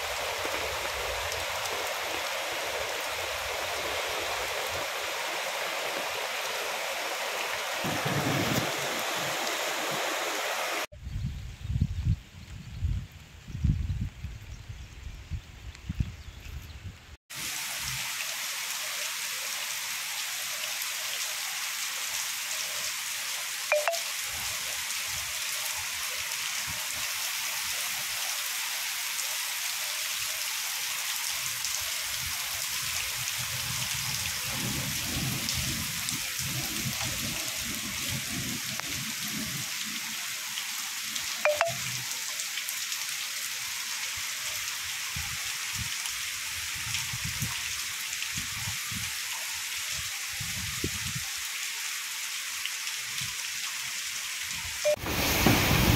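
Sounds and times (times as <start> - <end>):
heavy rain hiss: 0.0 - 10.9, 17.3 - 55.9.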